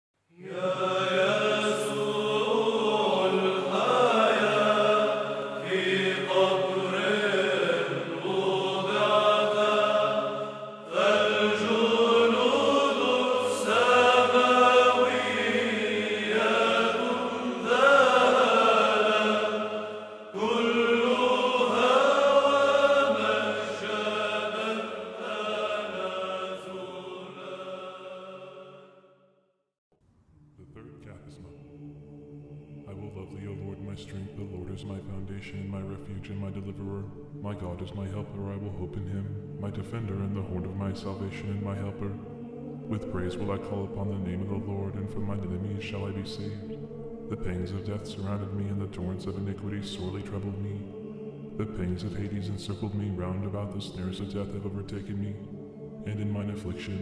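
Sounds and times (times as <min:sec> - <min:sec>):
choir chanting: 0:00.3 - 0:29.2, 0:31.0 - 0:57.0.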